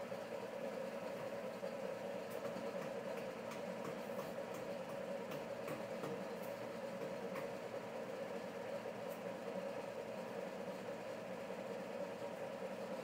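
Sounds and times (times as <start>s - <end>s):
workshop machinery hum: 0.0s - 13.0s.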